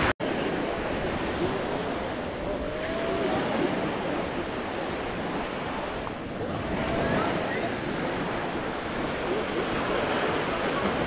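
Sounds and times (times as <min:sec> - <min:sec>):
small waves on sandy beach: 0:00.0 - 0:11.0.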